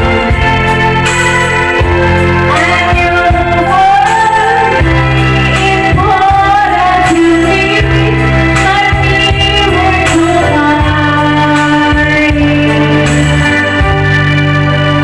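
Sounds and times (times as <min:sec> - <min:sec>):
keyboard chords backing track: 0:00.0 - 0:15.0
woman singing a slow ballad: 0:00.0 - 0:15.0.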